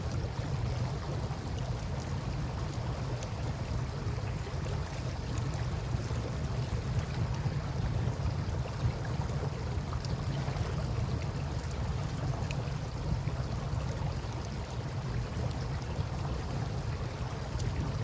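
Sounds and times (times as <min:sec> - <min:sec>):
campfire crackling: 0:00.0 - 0:18.0
river water: 0:00.0 - 0:18.0.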